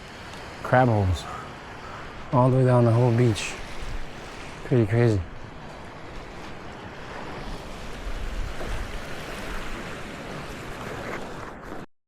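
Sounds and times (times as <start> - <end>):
wind buffeting microphone: 0.0 - 11.8
ocean surf on beach: 0.0 - 11.9.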